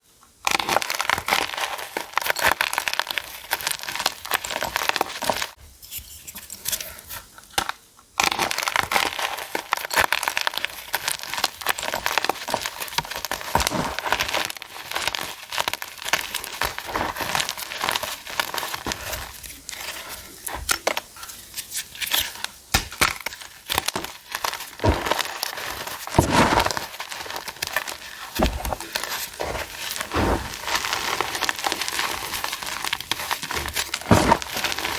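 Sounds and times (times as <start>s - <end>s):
chalk being crushed: 0.5s - 7.0s, 8.2s - 34.9s.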